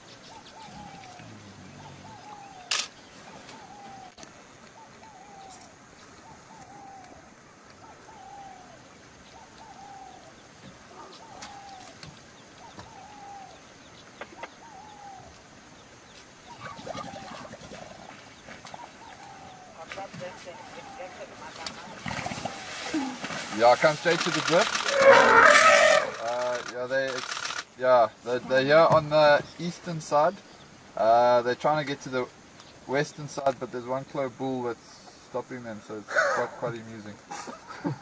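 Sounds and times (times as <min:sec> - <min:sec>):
faint bush ambience: 0:00.0 - 0:38.0.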